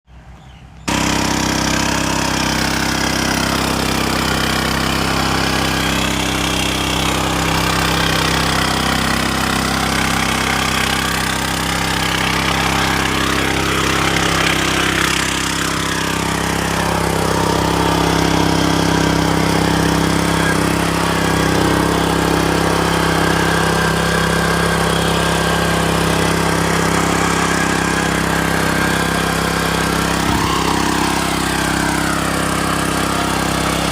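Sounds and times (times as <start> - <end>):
small engine running: 0.2 - 33.9.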